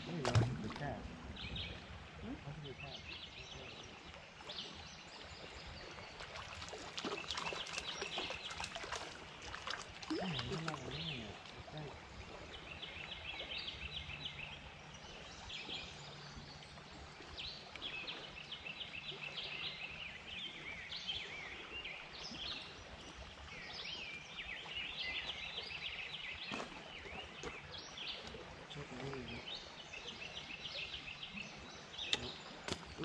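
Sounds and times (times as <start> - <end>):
birds chirping and trilling: 0.0 - 33.0.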